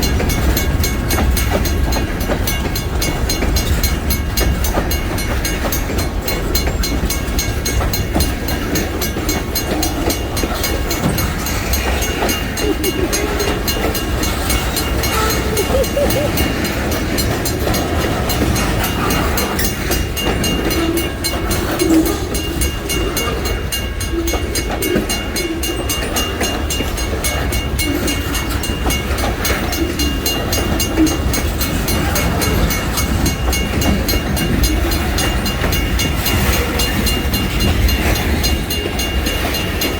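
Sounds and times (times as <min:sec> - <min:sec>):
freight train rolling past: 0:00.0 - 0:39.9
wheels clicking over rail joints: 0:00.0 - 0:39.9.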